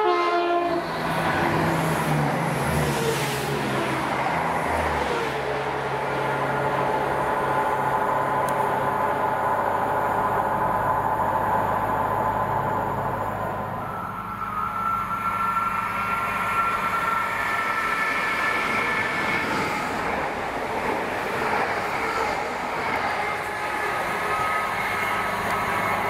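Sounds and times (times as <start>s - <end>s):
rail noise: 0.0s - 26.0s
train engine drone: 0.0s - 26.0s
train high whine: 0.0s - 26.0s.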